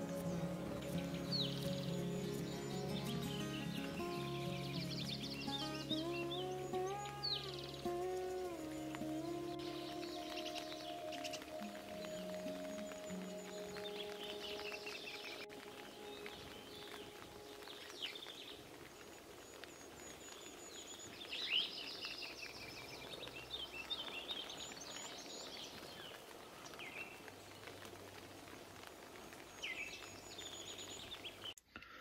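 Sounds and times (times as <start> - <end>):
songbirds chirping and trilling: 0.0 - 27.8
faint outdoor hiss: 0.0 - 32.0.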